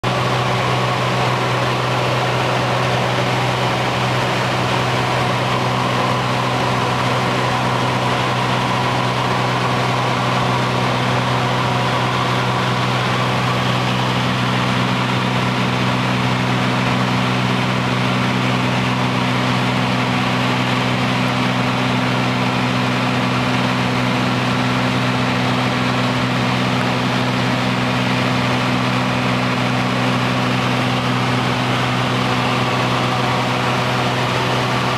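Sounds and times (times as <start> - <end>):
broad rushing noise: 0.0 - 34.9
propeller aircraft engine hum: 0.0 - 34.9.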